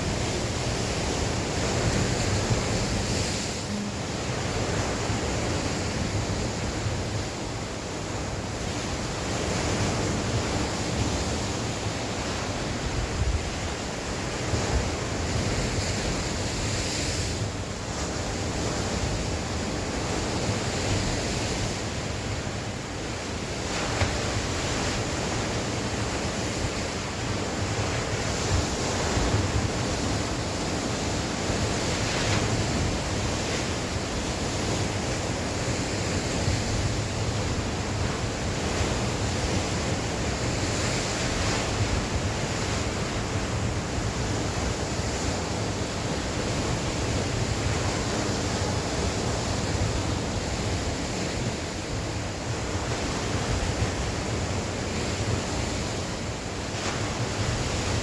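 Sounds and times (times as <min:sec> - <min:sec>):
sea waves washing in: 0:00.0 - 0:58.0
wind gusting over microphone: 0:00.0 - 0:58.0.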